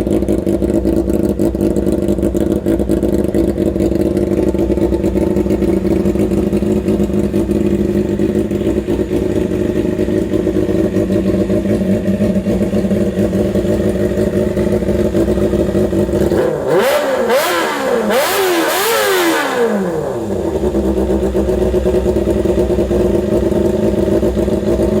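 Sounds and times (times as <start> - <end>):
motorcycle engine idling and revving: 0.0 - 25.0.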